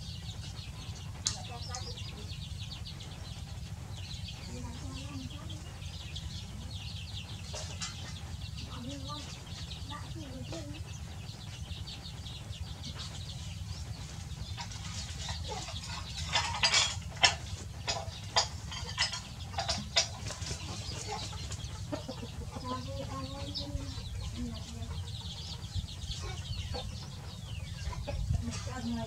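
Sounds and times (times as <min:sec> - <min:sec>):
chicks peeping: 0:00.0 - 0:29.0
hen clucking: 0:00.0 - 0:29.0.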